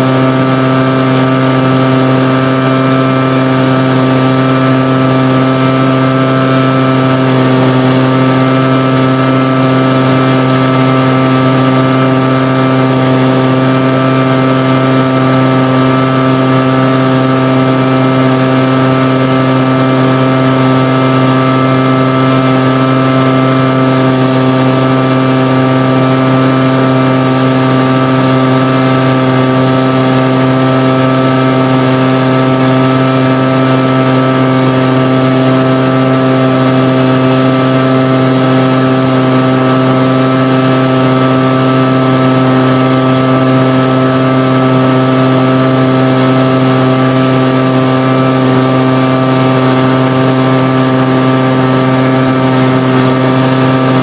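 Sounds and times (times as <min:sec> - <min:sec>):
jet engine droning at idle: 0:00.0 - 0:54.0.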